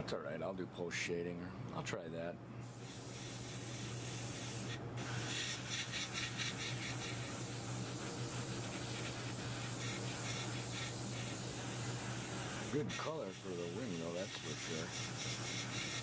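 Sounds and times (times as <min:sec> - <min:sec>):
airbrush hissing: 0:02.6 - 0:16.0.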